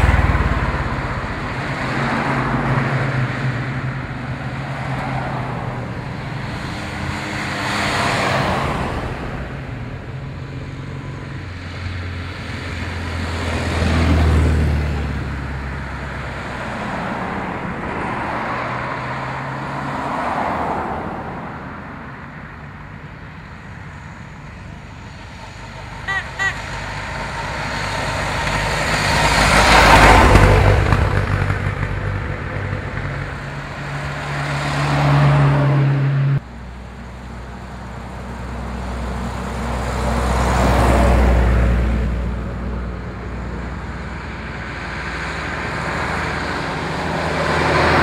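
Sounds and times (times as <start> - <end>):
cars driving past: 0.0 - 48.0.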